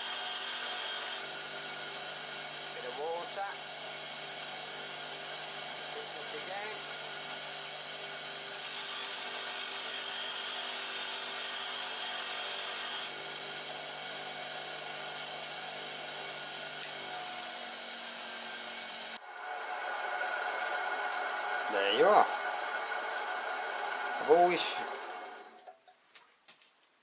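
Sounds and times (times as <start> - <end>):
steel grinding on wheel: 0.0 - 25.7
bench grinder motor humming: 0.0 - 25.8.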